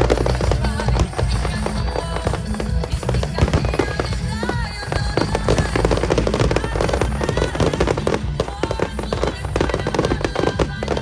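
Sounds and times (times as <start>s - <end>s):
fireworks bursting and crackling: 0.0s - 11.0s
loud music: 0.0s - 11.0s.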